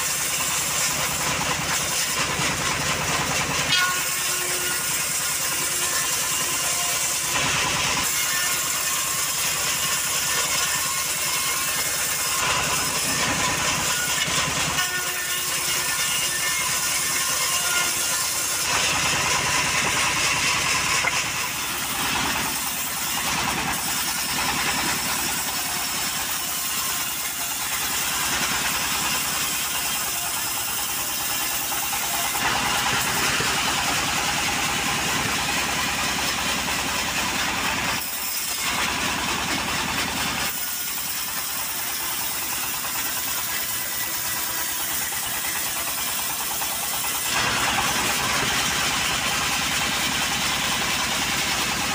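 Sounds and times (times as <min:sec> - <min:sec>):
saw blade cutting timber: 0:00.0 - 0:51.9
sawmill machine drone: 0:00.0 - 0:51.9.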